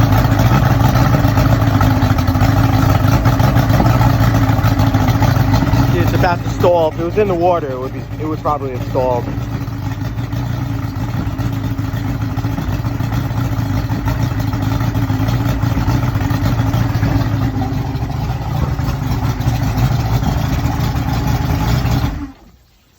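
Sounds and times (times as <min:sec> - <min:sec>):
outboard motor idling rough: 0:00.0 - 0:22.8.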